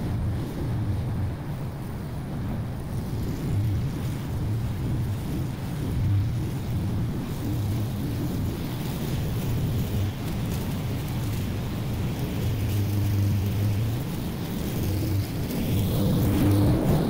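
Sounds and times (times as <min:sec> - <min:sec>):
wind rumbling on microphone: 0:00.0 - 0:17.0
lawn mower engine running: 0:03.3 - 0:17.0.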